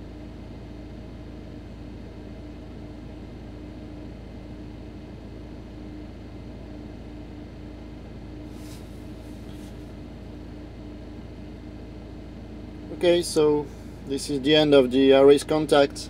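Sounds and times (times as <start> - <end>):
low rumble inside car: 0.0 - 16.0.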